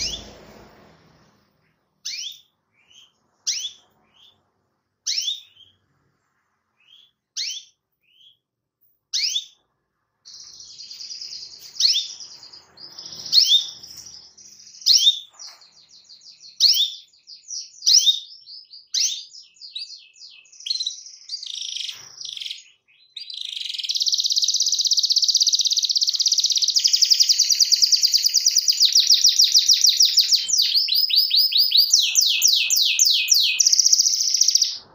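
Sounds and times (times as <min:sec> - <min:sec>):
canary chirping and trilling: 0:00.0 - 0:34.9.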